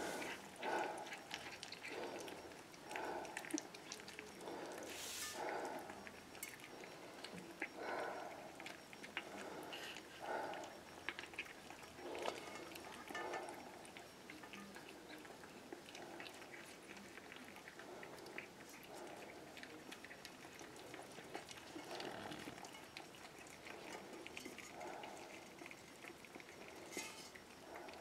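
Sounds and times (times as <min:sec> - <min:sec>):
puppies chewing and smacking: 0:00.0 - 0:28.0.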